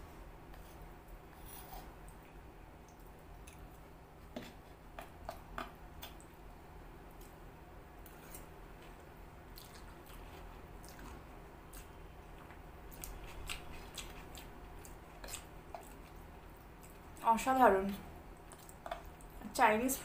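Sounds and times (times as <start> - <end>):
soft squishing and chewing: 1.4 - 6.4, 7.1 - 17.3, 18.0 - 19.5.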